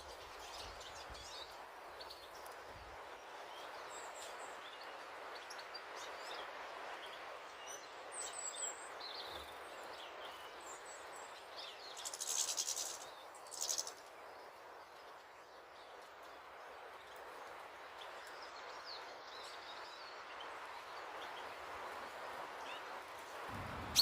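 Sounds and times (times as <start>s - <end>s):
background hiss: 0.0s - 24.0s
small birds chirping: 0.0s - 24.0s.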